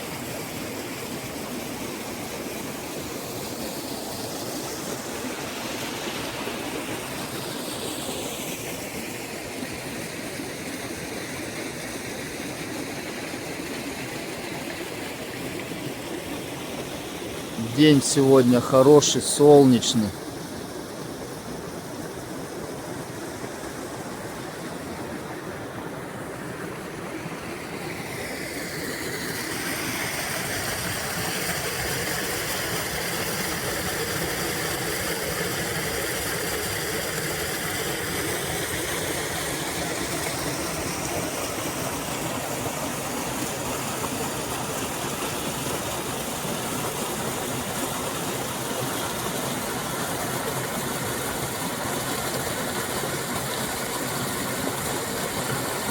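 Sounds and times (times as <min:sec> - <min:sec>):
stream rushing and babbling: 0:00.0 - 0:55.9.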